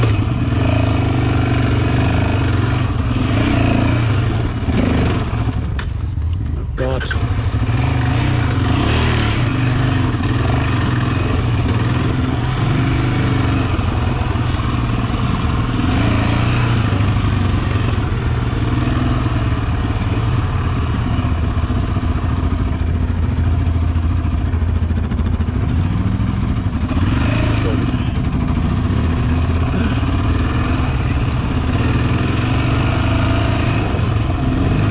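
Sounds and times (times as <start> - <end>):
quad engine running: 0.0 - 34.9.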